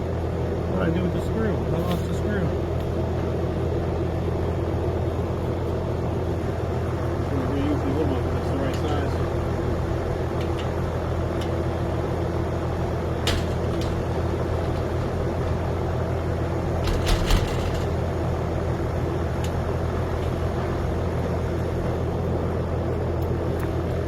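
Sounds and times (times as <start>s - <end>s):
idling engine drone: 0.0s - 24.0s.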